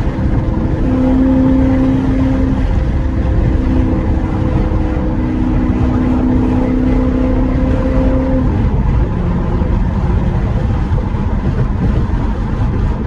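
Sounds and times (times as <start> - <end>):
car engine running: 0.0 - 13.0
wind buffeting microphone: 0.0 - 13.0.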